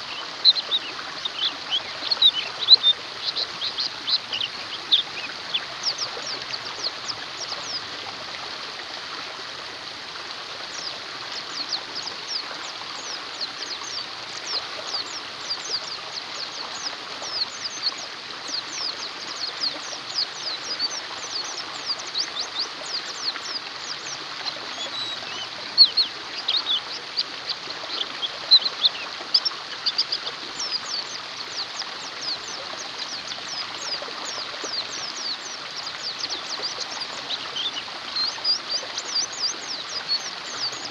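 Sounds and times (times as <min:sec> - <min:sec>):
birds chirping: 0:00.0 - 0:08.0, 0:10.7 - 0:40.9
running water hiss: 0:00.0 - 0:40.9.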